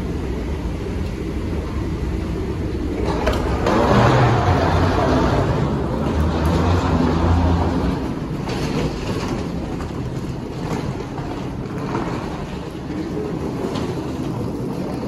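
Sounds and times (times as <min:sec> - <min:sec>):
escalator machine hum: 0:00.0 - 0:15.0
suitcase wheels rolling on tiles: 0:02.9 - 0:15.0.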